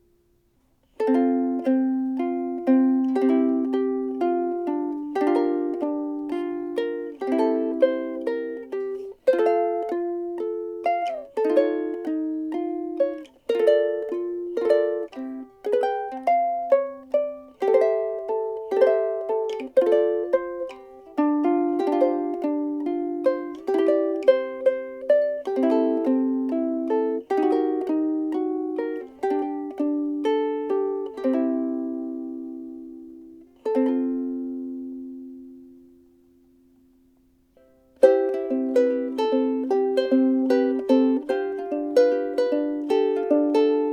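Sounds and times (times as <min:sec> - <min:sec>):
ukulele chords and picked notes: 0:00.0 - 0:43.9.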